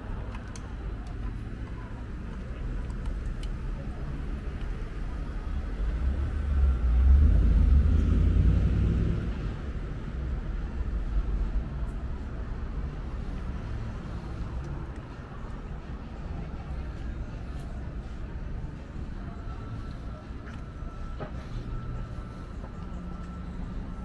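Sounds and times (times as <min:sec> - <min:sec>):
city background noise: 0:00.0 - 0:24.0
passing vehicle engine rumble: 0:00.0 - 0:24.0.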